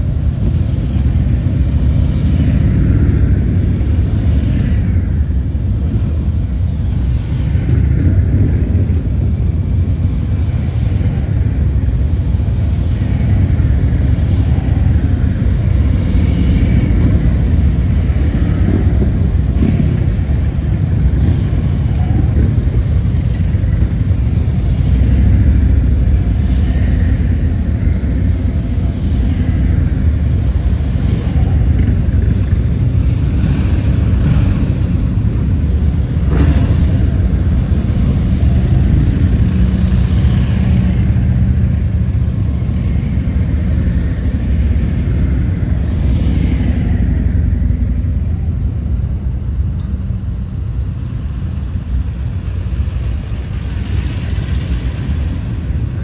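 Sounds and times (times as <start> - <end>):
motorcycle engines rumbling: 0.0 - 56.0.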